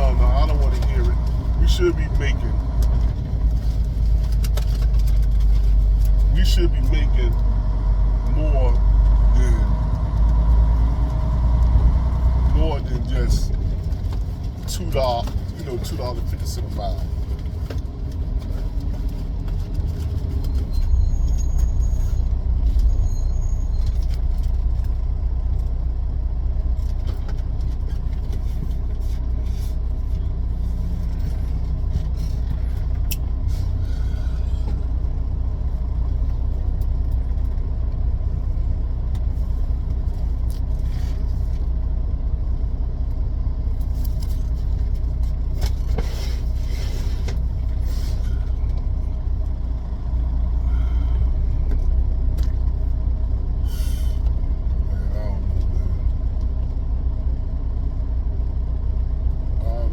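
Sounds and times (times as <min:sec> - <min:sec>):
truck engine rumbling: 0:00.0 - 0:59.9.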